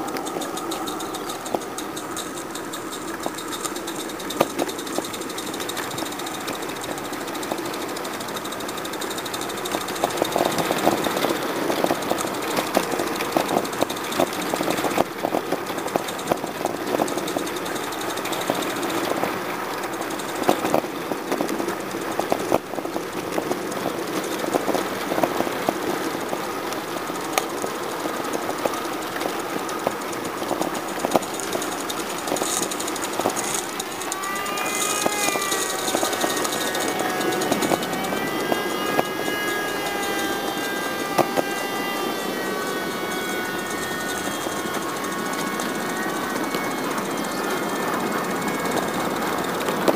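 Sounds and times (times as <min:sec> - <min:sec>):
steam hissing: 0:00.0 - 0:49.9
steam locomotive chuffing: 0:00.0 - 0:49.9.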